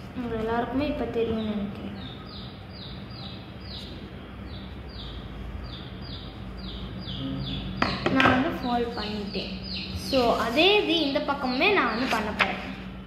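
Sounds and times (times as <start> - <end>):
steady low hum: 0.0 - 13.0
small bird chirping: 1.2 - 12.8.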